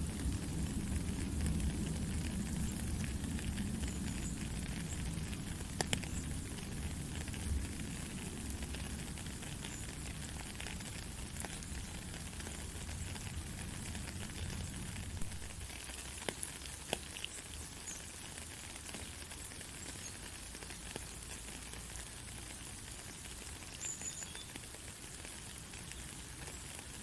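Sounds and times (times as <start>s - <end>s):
heavy rain falling: 0.0s - 27.0s
sharp raindrop ticks: 0.0s - 27.0s.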